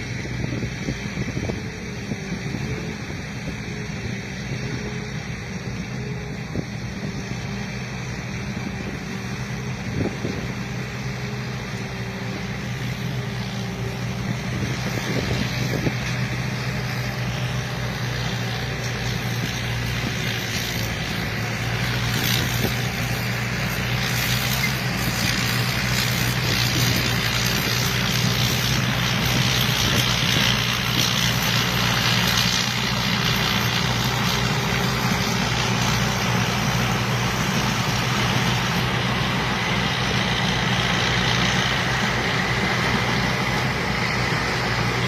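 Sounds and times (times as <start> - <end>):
combine harvester engine hum: 0.0 - 45.0.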